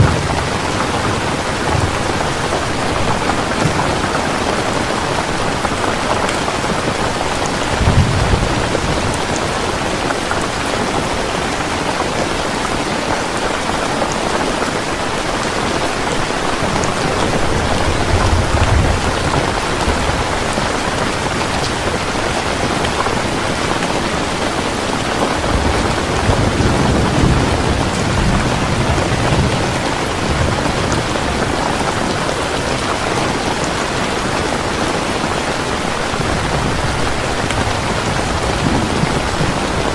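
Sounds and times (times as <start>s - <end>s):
thunder rumbling: 0.0s - 12.4s, 14.9s - 39.9s
heavy rain pouring: 0.0s - 39.9s.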